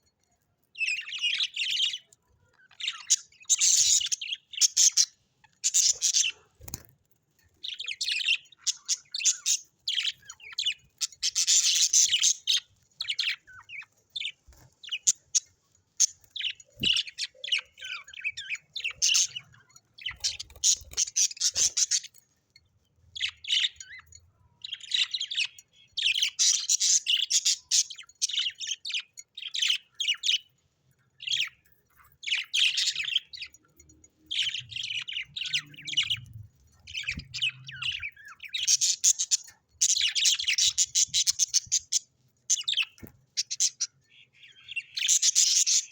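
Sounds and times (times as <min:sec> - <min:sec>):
birds chirping and chattering: 0:00.0 - 0:45.9.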